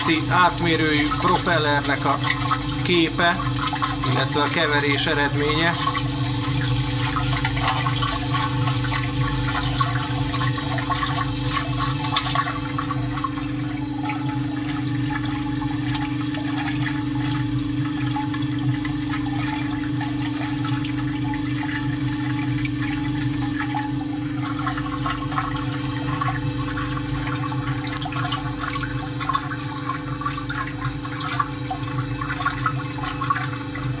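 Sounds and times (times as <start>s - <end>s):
stirrer motor humming: 0.0s - 34.0s
water churning in pot: 0.0s - 34.0s.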